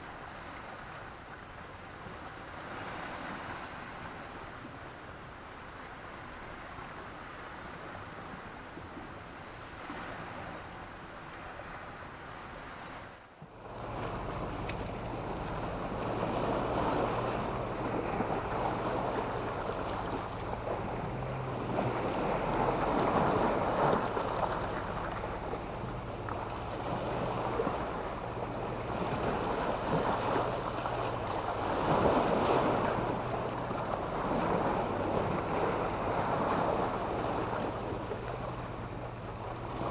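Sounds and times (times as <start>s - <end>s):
waves breaking on stony shore: 0.0s - 39.9s.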